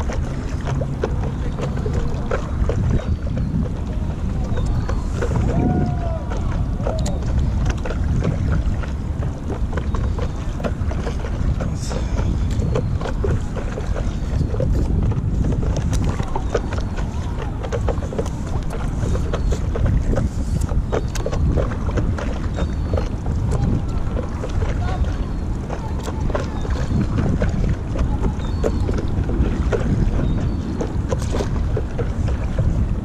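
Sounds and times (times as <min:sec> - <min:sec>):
paddle splashes and drips: 0:00.0 - 0:33.0
wind rumbling on microphone: 0:00.0 - 0:33.0.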